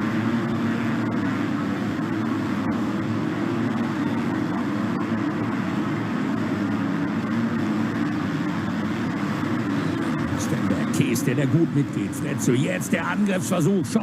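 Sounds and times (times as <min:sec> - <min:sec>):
motocross bike engines droning: 0:00.0 - 0:14.0.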